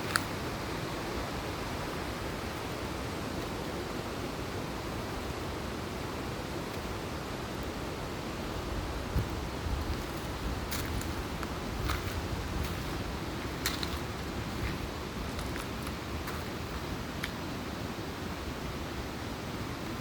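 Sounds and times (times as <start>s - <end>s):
stream rushing: 0.0s - 20.0s.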